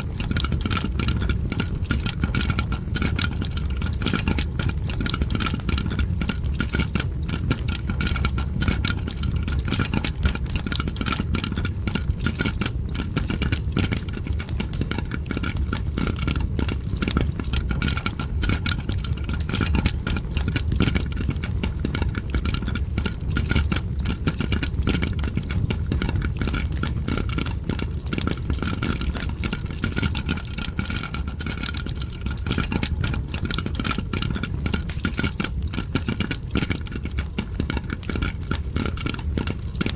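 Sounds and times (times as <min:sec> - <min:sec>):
fire crackling: 0:00.0 - 0:39.9
popcorn popping: 0:00.0 - 0:39.9.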